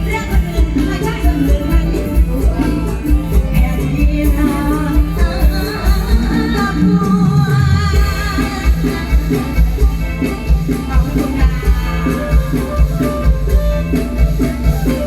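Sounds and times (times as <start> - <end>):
live band playing: 0.0 - 15.0
person singing: 0.0 - 15.0
steady drum beat: 0.0 - 15.0.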